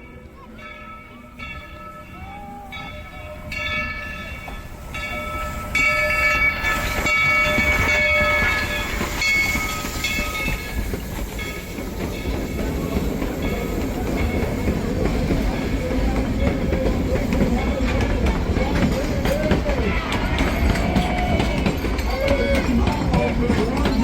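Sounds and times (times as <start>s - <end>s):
rumble and clatter of train: 0.0s - 24.0s.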